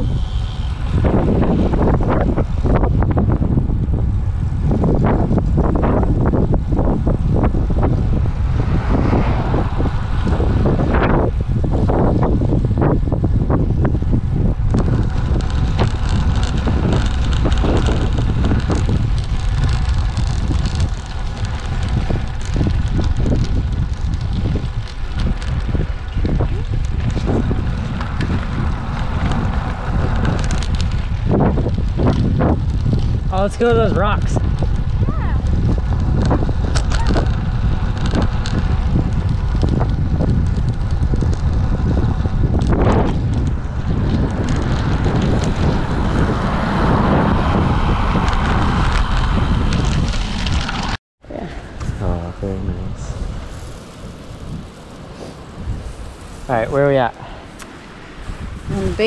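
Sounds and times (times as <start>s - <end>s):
bike rattling over rough pavement: 0.0s - 59.0s
wind buffeting microphone: 0.0s - 59.0s.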